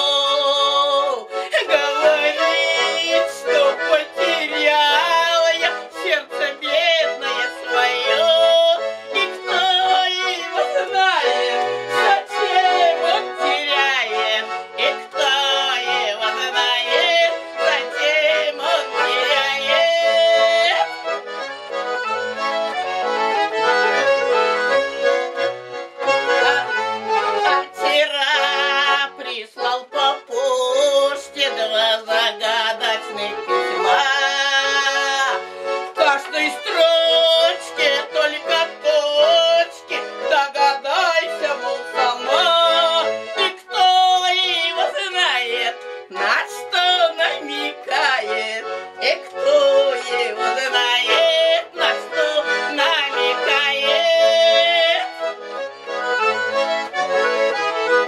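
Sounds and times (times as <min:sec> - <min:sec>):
button accordion playing folk tune: 0:00.0 - 0:58.0.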